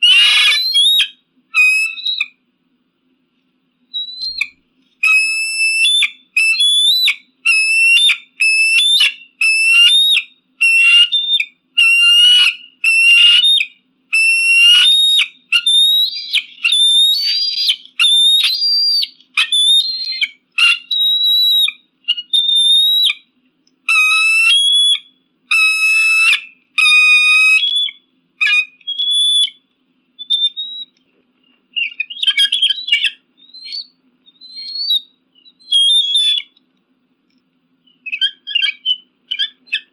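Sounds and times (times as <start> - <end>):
eagle calling: 0.0 - 2.4, 4.0 - 23.3, 23.9 - 29.6, 30.2 - 36.6, 37.8 - 39.9.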